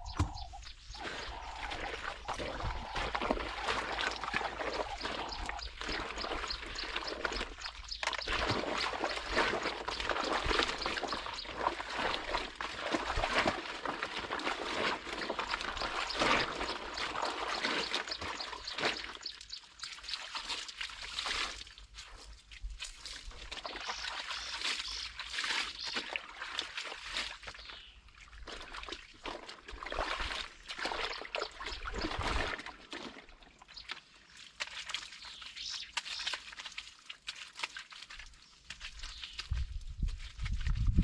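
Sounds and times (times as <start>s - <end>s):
water sloshing and splashing: 0.0s - 41.0s.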